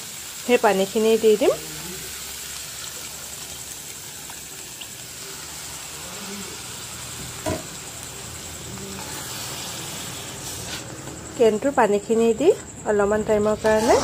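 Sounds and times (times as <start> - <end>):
food sizzling in a wok: 0.0 - 14.0.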